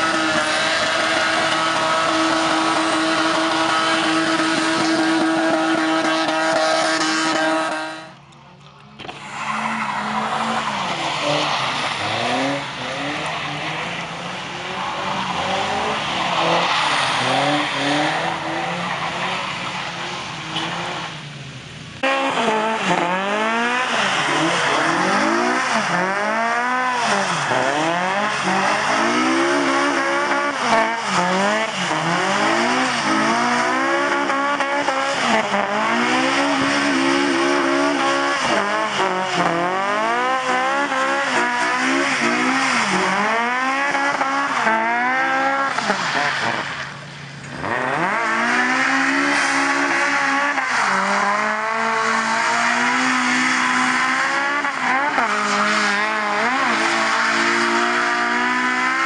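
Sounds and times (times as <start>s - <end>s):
car engine revving hard: 0.0s - 8.0s, 9.1s - 21.2s, 22.0s - 59.0s.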